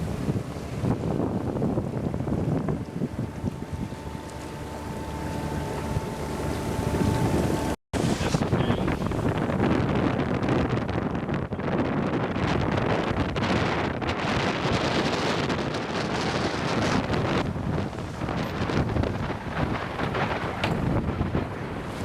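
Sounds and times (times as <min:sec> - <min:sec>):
sea wash: 0:00.0 - 0:22.0
wind buffeting microphone: 0:00.0 - 0:22.0.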